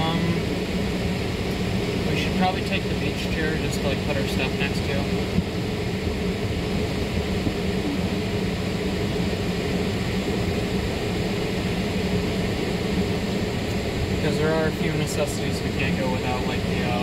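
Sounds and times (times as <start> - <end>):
car air conditioning blower: 0.0 - 17.0.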